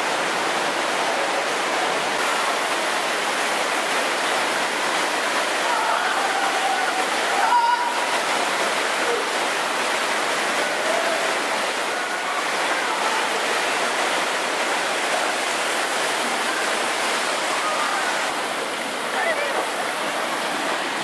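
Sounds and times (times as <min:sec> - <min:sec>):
water rushing down rapids: 0:00.0 - 0:21.0.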